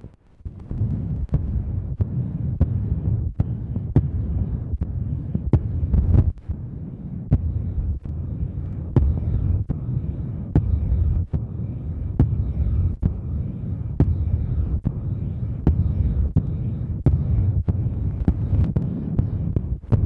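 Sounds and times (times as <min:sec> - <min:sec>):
low rumbling throb on microphone: 0:00.0 - 0:20.0.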